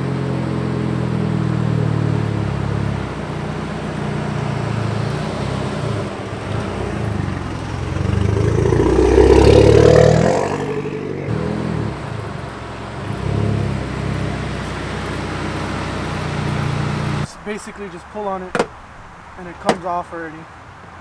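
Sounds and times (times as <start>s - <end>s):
car engine running at low revs: 0.0s - 17.6s.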